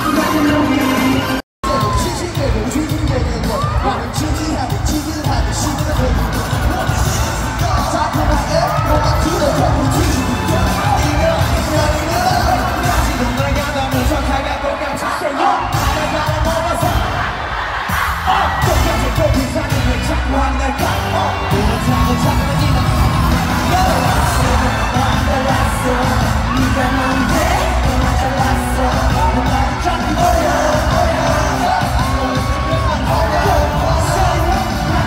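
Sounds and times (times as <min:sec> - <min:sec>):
person singing: 0:00.0 - 0:17.2, 0:18.1 - 0:35.0
pop music over sound system: 0:00.0 - 0:35.0.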